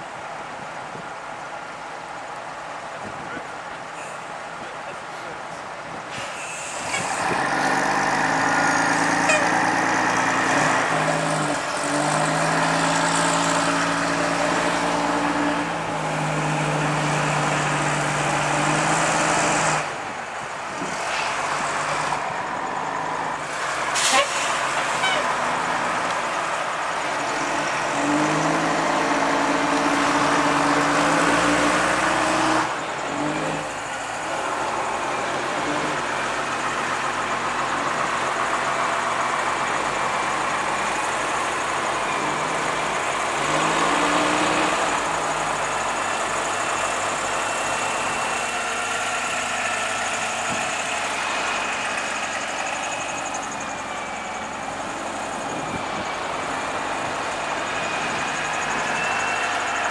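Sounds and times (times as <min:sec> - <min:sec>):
bus diesel engines driving past: 0:00.0 - 0:59.9.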